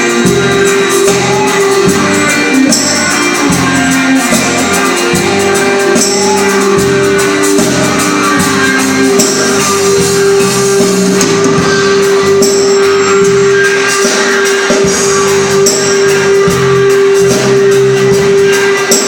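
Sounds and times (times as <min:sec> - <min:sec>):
guitar: 0:00.0 - 0:19.0
tambourine: 0:00.0 - 0:19.0.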